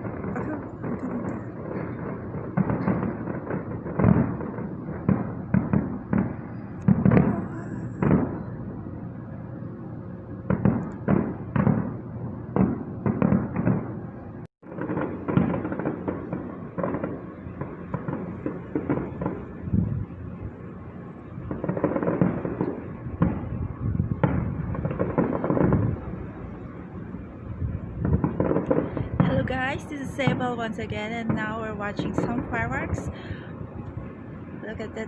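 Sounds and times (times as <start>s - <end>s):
distant fireworks bangs: 0.0s - 35.0s.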